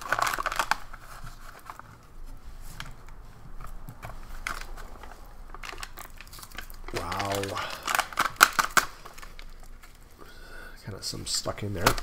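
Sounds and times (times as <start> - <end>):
foil pouch crinkling: 0.0 - 10.2.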